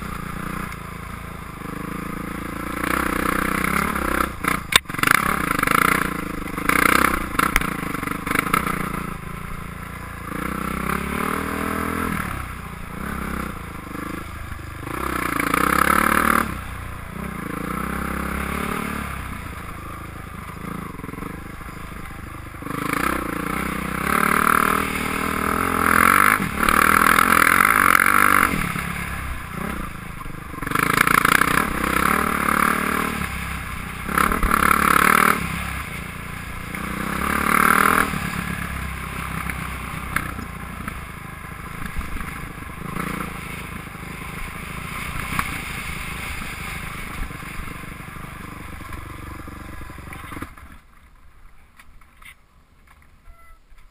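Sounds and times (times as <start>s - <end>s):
dirt bike engine revving: 0.0s - 50.7s.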